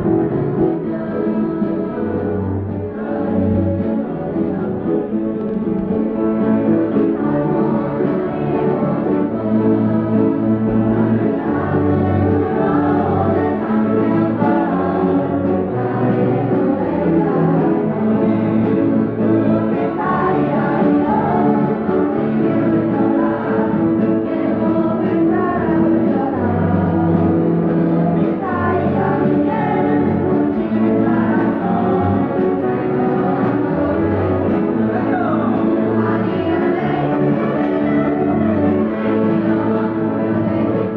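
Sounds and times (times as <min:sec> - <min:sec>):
choir singing a yodel song: 0:00.0 - 0:40.9
keyboard chords and bass notes: 0:00.0 - 0:40.9.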